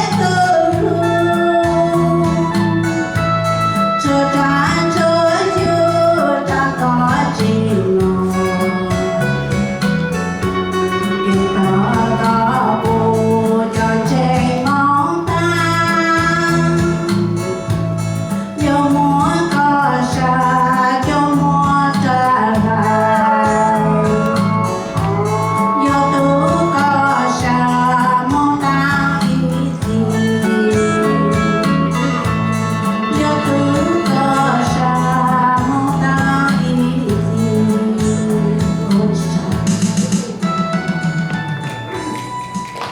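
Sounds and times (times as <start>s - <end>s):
person singing: 0.0s - 40.7s
guitar-led backing music: 0.0s - 42.9s.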